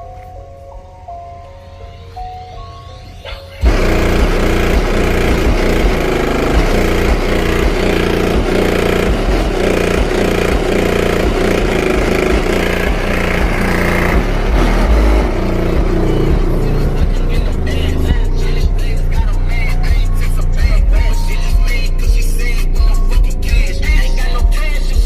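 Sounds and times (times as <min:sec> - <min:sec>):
bass-heavy rap through car stereo: 0:00.0 - 0:25.0.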